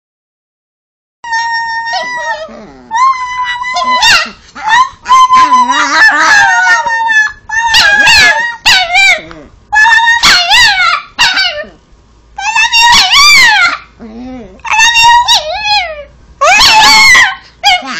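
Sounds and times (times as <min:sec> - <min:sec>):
small dog howling: 0:01.2 - 0:11.8, 0:12.4 - 0:17.9.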